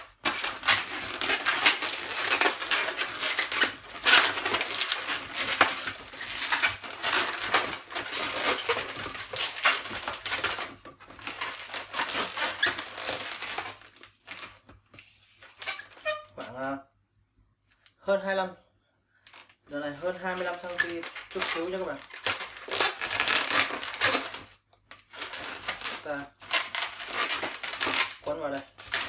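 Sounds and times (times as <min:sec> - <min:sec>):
balloons squeaking and rubbing: 0:00.0 - 0:16.5, 0:19.3 - 0:29.0.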